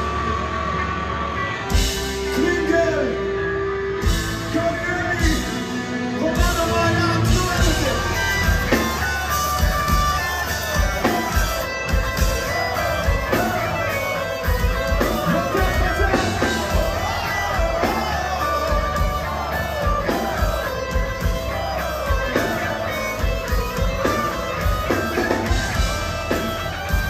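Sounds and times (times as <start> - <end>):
live metal band: 0.0 - 27.0.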